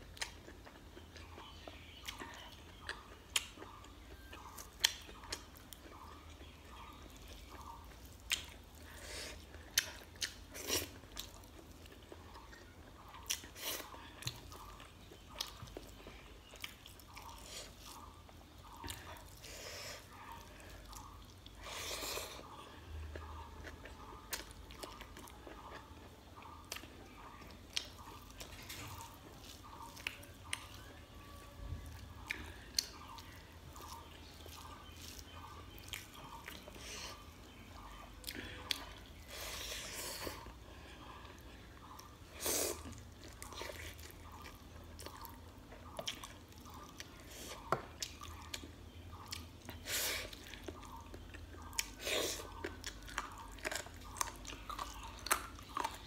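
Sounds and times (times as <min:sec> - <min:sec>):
close chewing with wet mouth clicks: 0:00.0 - 0:56.0.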